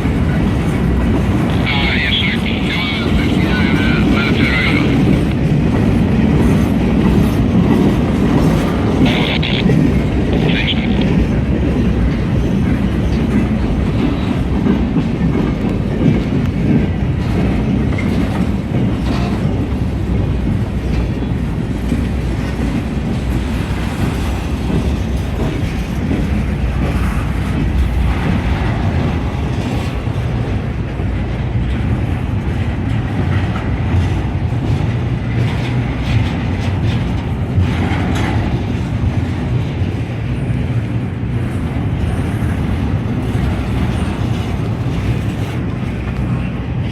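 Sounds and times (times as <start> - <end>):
freight train rumbling past: 0.0 - 46.9
wheels clacking over rail joints: 0.0 - 46.9.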